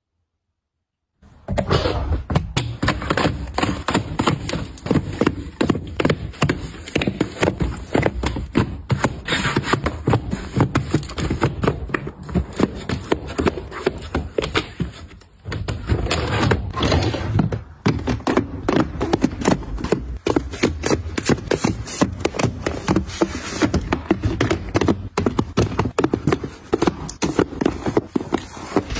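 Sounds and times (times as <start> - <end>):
cardboard boxes knocking and scraping: 2.2 - 28.9.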